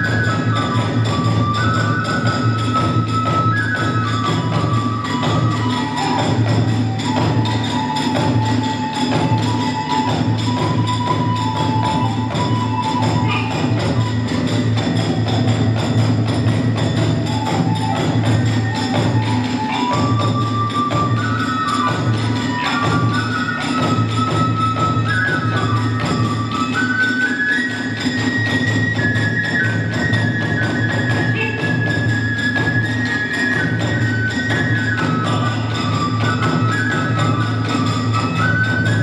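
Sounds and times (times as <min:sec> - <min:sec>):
bamboo flute melody: 0:00.0 - 0:39.0
small hand cymbals clashing: 0:00.0 - 0:39.0
taiko drumming: 0:00.0 - 0:39.0.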